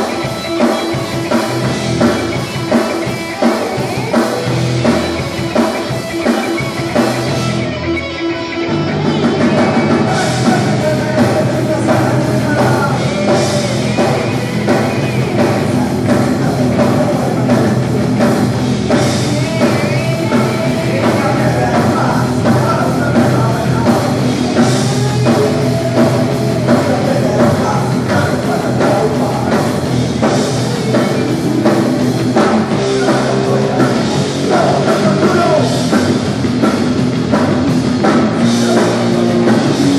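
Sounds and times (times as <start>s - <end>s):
punk rock band playing live: 0.0s - 39.9s.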